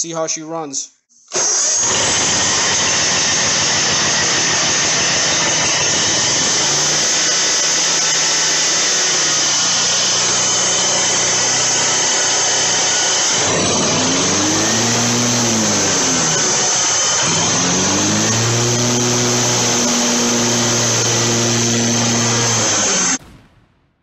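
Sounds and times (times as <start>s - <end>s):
mower engine running: 1.4s - 23.2s.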